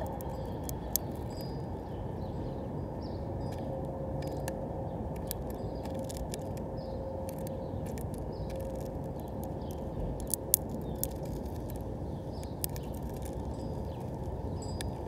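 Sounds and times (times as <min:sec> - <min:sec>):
beak clicking on seeds: 0:00.0 - 0:01.6, 0:03.4 - 0:15.0
seed shells cracking: 0:00.0 - 0:01.6, 0:04.2 - 0:15.0
low background rumble: 0:00.0 - 0:15.0.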